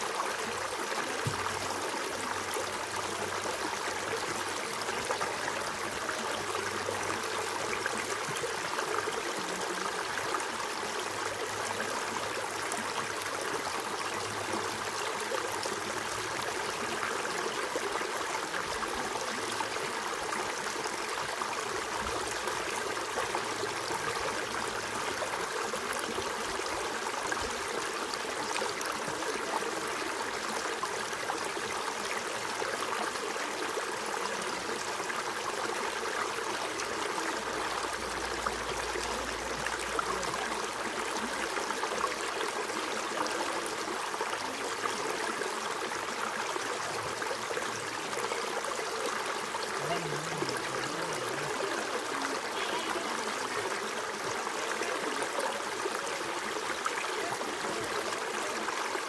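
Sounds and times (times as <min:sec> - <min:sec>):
creek babbling over rocks: 0:00.0 - 0:59.0.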